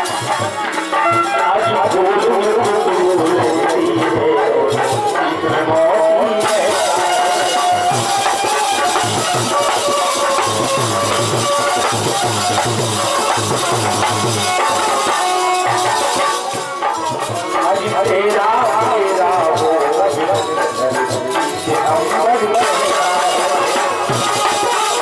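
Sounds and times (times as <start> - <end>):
harmonium melody: 0.0 - 25.0
jingling shaker percussion: 0.0 - 25.0
steady drum beat: 0.0 - 25.0.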